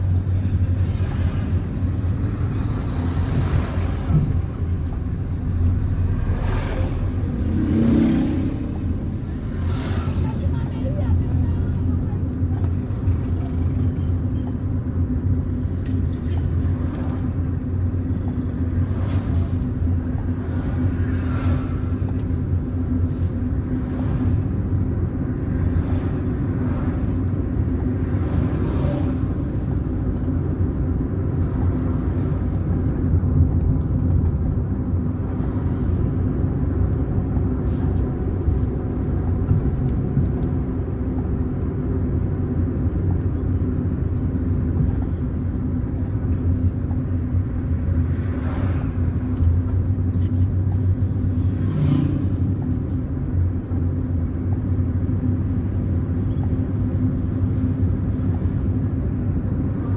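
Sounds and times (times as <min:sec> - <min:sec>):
car engine and tyres rumbling: 0:00.0 - 0:59.9
constant low hum: 0:00.0 - 0:59.9.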